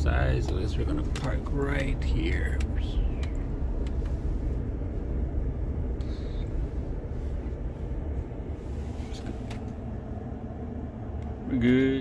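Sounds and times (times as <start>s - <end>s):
pickup engine from inside cab: 0.0s - 12.0s
road rumble: 0.0s - 12.0s.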